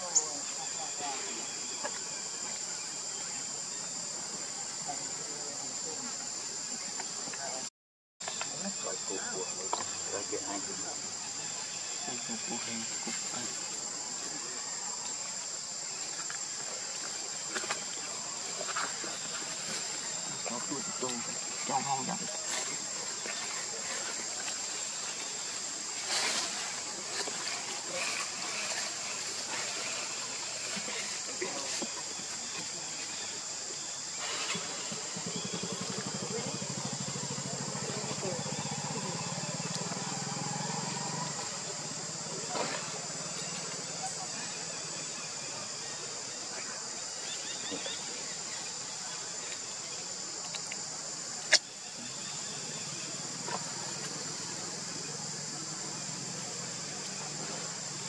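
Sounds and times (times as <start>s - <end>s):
insects buzzing: 0.0s - 58.0s
outdoor background hiss: 0.0s - 58.0s.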